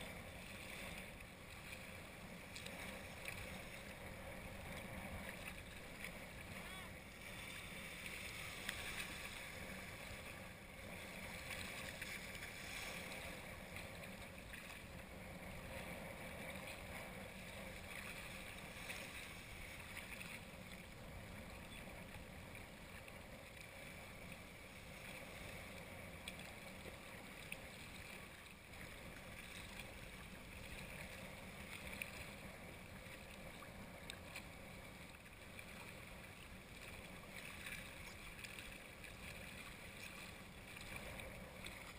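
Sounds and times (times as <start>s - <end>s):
small waves lapping: 0.0s - 41.9s
wind: 0.0s - 41.9s.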